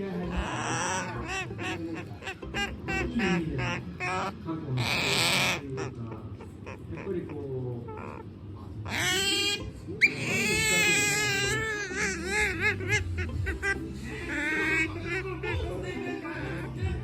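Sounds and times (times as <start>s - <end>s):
otter squeaky calls: 0.0s - 17.0s.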